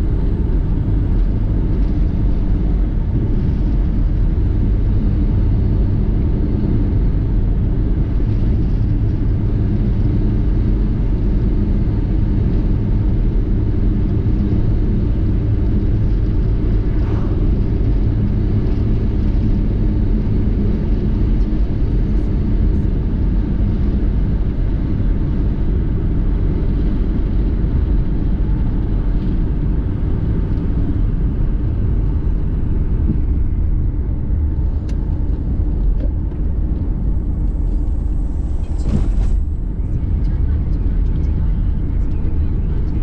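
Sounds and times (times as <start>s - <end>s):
road noise: 0.0s - 22.4s, 23.0s - 43.0s
car engine rumble: 0.0s - 43.0s.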